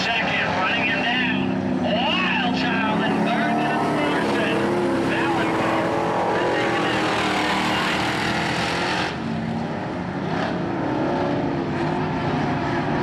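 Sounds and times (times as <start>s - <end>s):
race car engines running hard: 0.0s - 13.0s.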